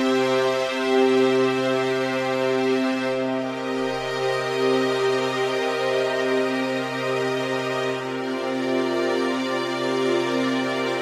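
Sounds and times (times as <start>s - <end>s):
music with slow held notes: 0.0s - 11.0s.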